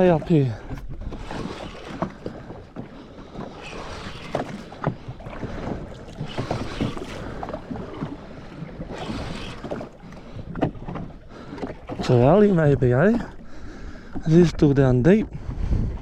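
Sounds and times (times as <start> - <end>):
water slapping against hull: 0.0 - 16.0
wind buffeting microphone: 0.0 - 16.0.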